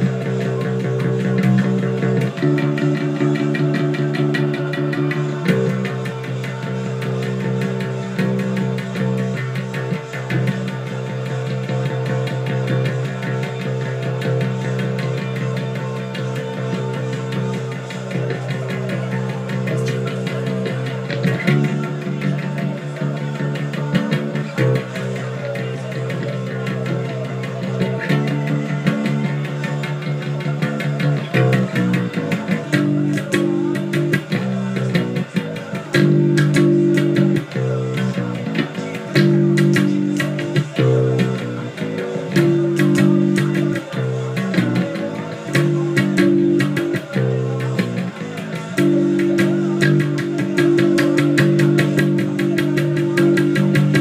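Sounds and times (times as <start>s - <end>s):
electric bass guitar line: 0.0s - 54.0s
rock band recording: 0.0s - 54.0s.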